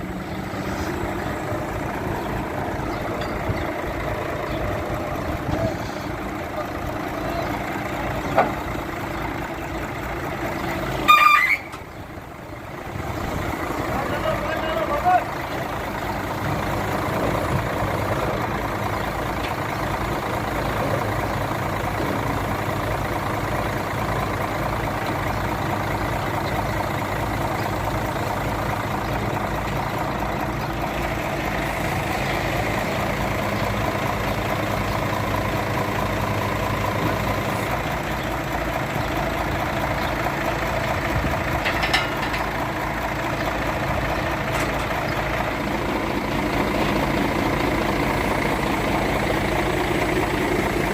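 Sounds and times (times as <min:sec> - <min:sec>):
truck engine running: 0:00.0 - 0:50.9.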